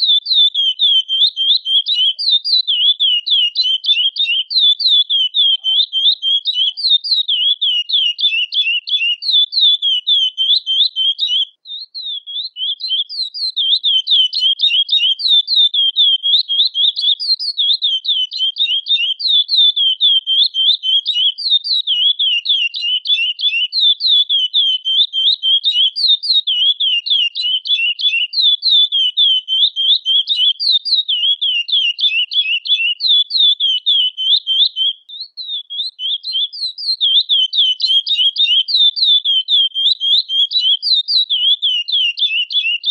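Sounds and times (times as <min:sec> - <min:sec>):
finch singing: 0:00.0 - 0:42.9.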